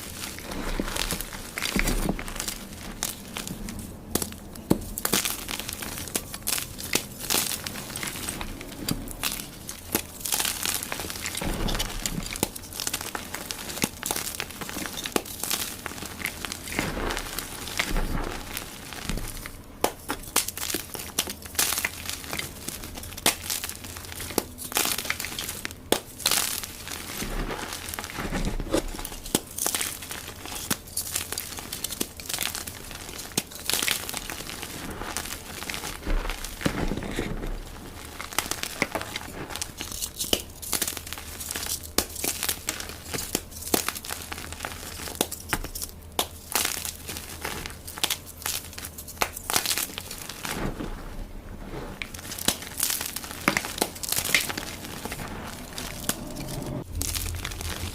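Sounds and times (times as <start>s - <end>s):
chalk blocks crunching: 0.0s - 57.9s.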